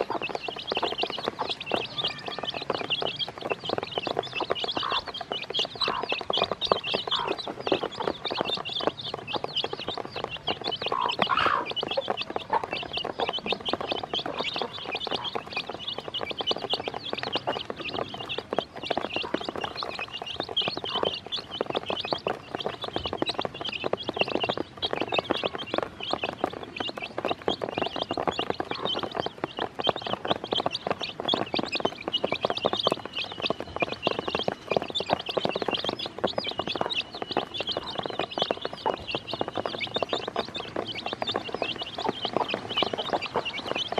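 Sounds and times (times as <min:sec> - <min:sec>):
baby chicks peeping: 0:00.0 - 0:43.9
beaks pecking a plastic basin: 0:00.0 - 0:43.9.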